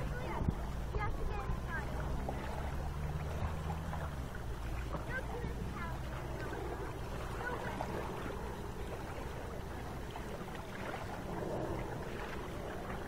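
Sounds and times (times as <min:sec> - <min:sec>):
faint distant voices: 0:00.0 - 0:13.0
steady low rumble: 0:00.0 - 0:13.0
water wash: 0:00.0 - 0:13.0.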